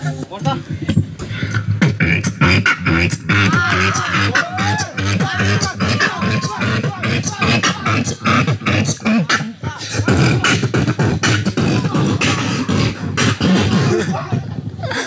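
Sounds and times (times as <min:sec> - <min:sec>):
beatboxing through a microphone: 0:00.0 - 0:15.0.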